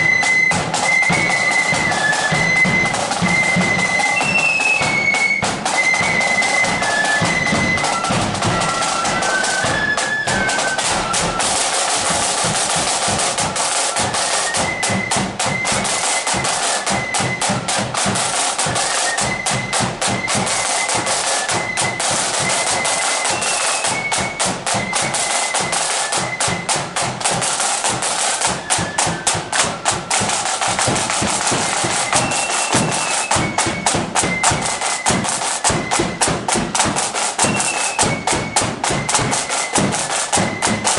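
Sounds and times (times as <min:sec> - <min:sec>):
flutes playing high melody: 0:00.0 - 0:40.9
rapid snare drumming: 0:00.0 - 0:40.9.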